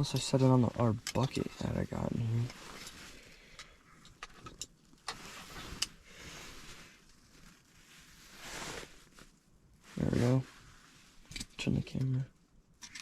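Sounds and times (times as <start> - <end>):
rustling of gear: 0.3 - 11.7.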